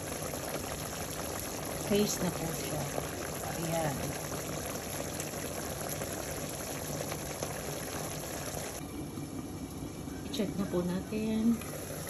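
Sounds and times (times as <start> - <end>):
sauce bubbling in a pot: 0.0 - 12.0.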